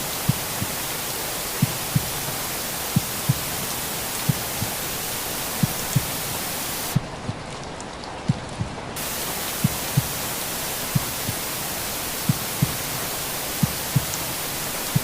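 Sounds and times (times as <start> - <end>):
white noise hiss: 0.0 - 7.4, 8.9 - 15.0
heartbeat thumps: 0.1 - 0.9, 1.6 - 4.9, 5.5 - 7.4, 8.3 - 11.6, 12.2 - 15.0.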